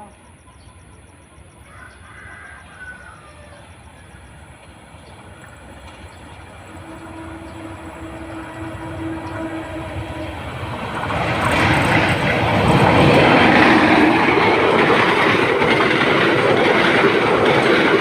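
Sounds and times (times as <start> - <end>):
train approaching rumble: 0.0 - 18.0.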